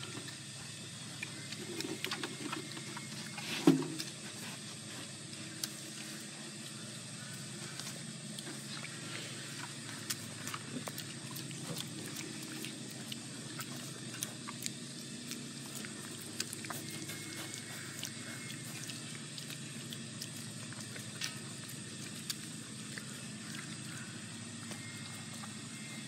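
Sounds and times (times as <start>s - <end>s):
piglets snuffling and grunting: 0.0s - 26.0s.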